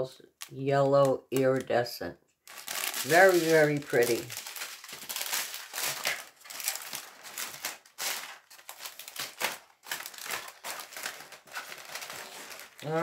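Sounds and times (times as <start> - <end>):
plastic bags crinkling: 2.4 - 13.0.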